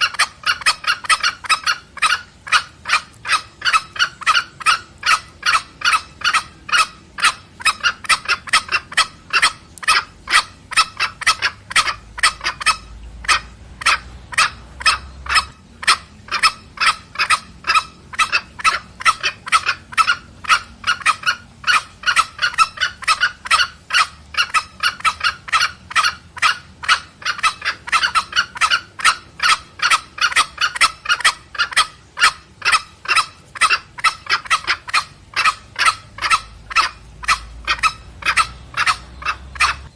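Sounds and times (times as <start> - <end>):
junglefowl clucking calls: 0.0 - 39.9.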